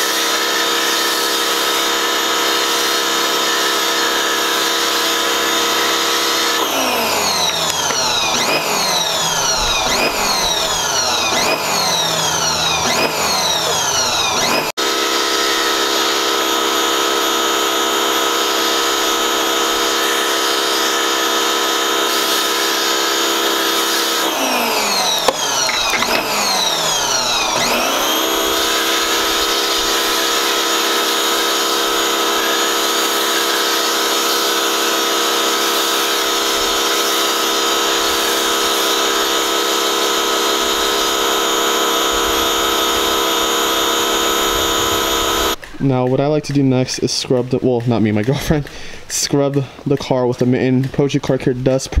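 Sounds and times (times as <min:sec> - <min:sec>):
pressure washer motor and pump: 0:00.0 - 0:52.0.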